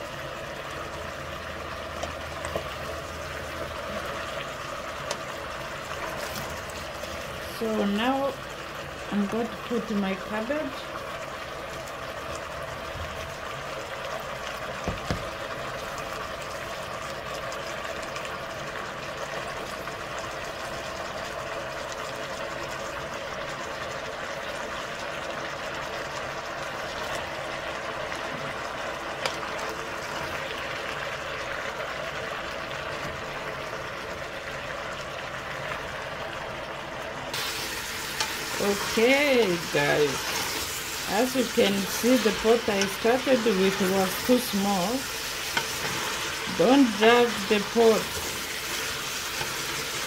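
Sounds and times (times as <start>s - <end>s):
potatoes frying in oil: 0.0s - 50.0s.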